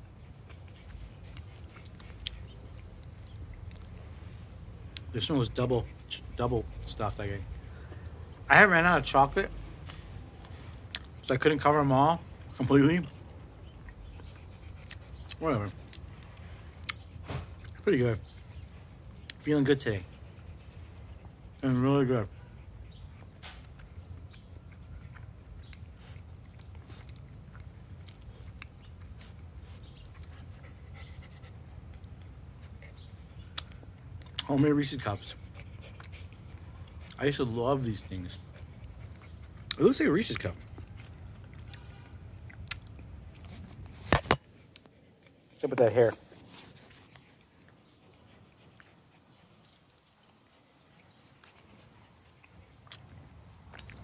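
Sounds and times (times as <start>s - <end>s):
chewing and mouth sounds: 0.0s - 54.0s
puppy panting and sniffing: 0.0s - 54.0s.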